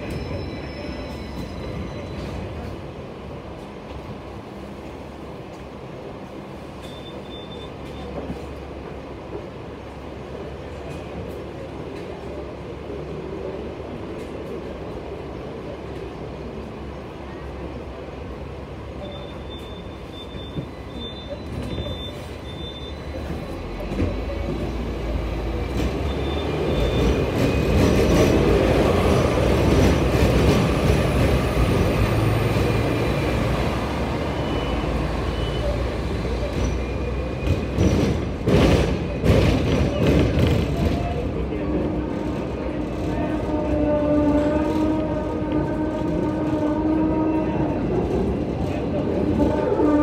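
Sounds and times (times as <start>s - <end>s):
tram idling: 0.0s - 50.0s
tram wheels rumbling and rattling: 0.0s - 50.0s.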